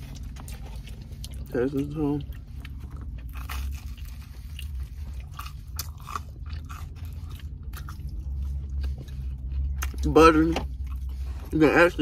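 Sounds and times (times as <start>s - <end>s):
chewing crunchy toast: 0.0s - 11.5s.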